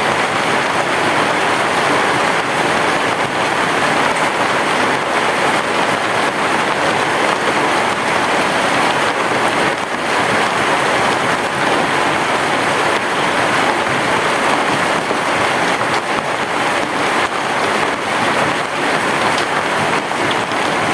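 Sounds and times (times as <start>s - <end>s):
heavy rain on a roof: 0.0s - 20.9s.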